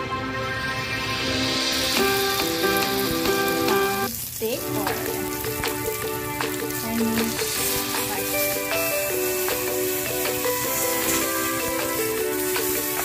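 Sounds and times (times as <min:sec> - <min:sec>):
background music with simple melody: 0:00.0 - 0:13.0
steaks sizzling in oil: 0:01.2 - 0:13.0.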